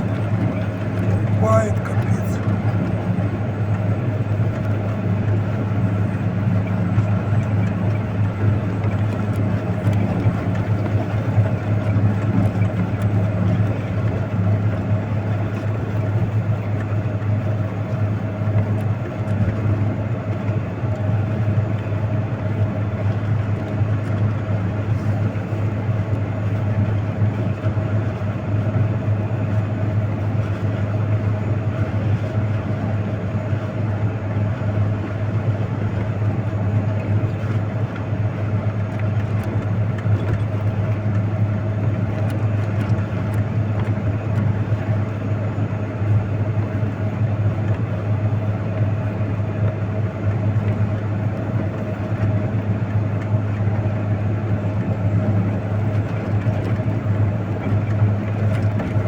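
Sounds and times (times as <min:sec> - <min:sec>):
heavy vehicle engine droning: 0:00.0 - 0:59.0.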